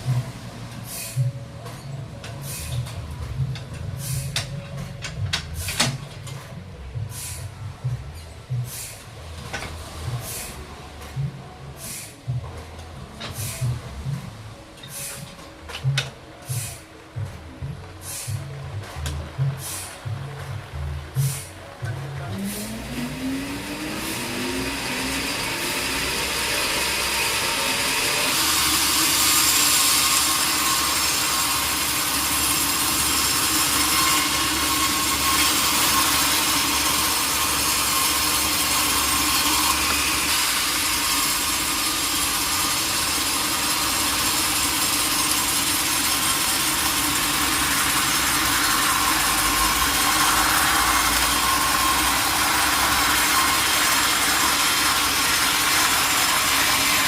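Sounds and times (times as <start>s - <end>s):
sawmill saw cutting log: 0.0s - 12.4s, 13.0s - 17.0s, 18.0s - 57.0s.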